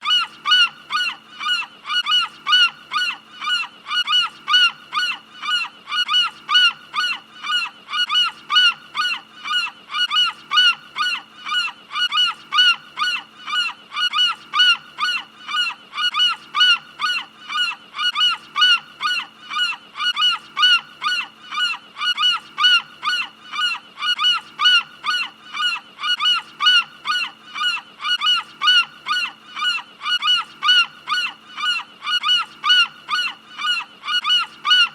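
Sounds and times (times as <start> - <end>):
seagull calling: 0.0 - 34.9.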